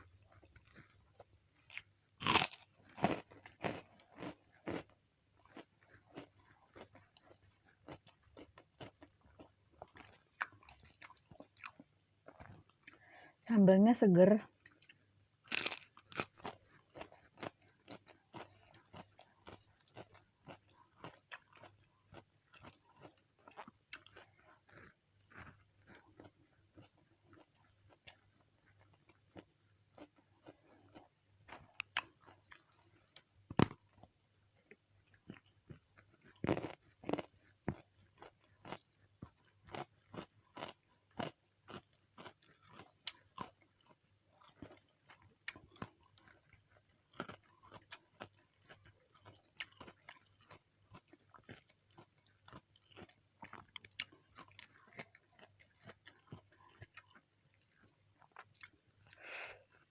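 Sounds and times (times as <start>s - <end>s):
crunchy chewing and biting: 0.3s - 13.0s, 14.7s - 59.2s.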